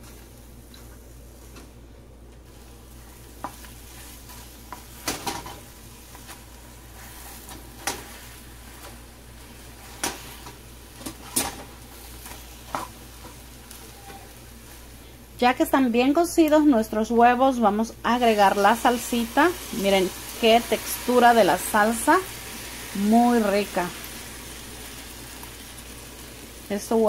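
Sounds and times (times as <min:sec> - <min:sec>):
eggs sizzling in oil: 0:02.5 - 0:15.7, 0:17.6 - 0:27.0.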